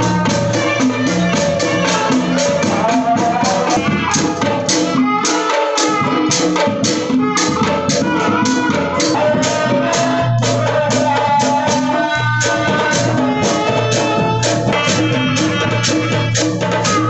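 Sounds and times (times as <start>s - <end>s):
drums beating: 0.0s - 17.0s.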